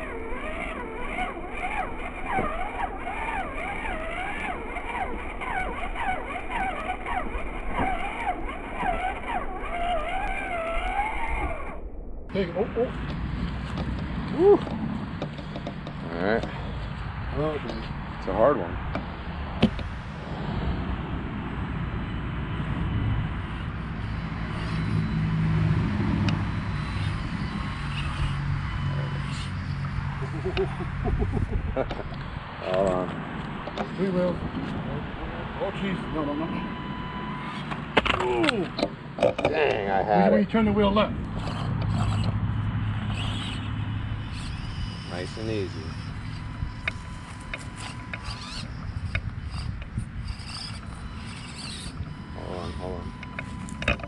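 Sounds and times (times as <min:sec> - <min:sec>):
electric motor and gears whining: 0:00.0 - 0:54.0
low engine drone: 0:00.0 - 0:54.0.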